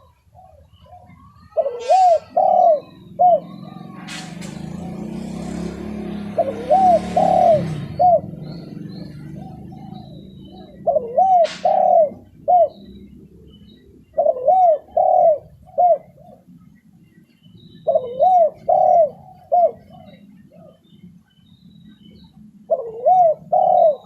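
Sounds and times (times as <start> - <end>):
dove cooing: 0.0 - 24.0
small birds chirping: 0.0 - 24.0.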